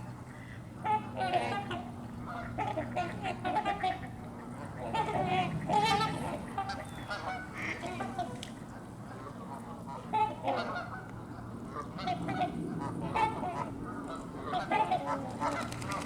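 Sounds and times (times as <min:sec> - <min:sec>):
waterfowl honking: 0:00.4 - 0:08.4, 0:09.1 - 0:16.0.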